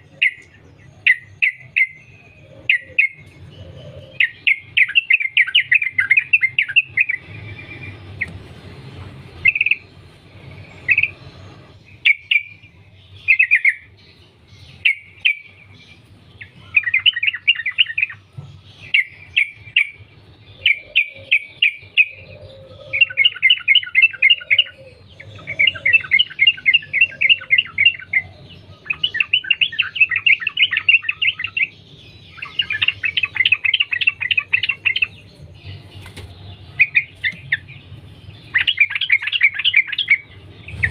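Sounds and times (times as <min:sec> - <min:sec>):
bird singing rapid repeated notes: 0:00.0 - 0:40.9.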